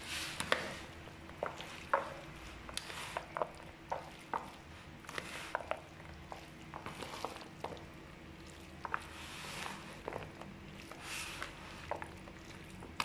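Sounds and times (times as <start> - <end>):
wet squishing of stirred food: 0.0 - 13.0.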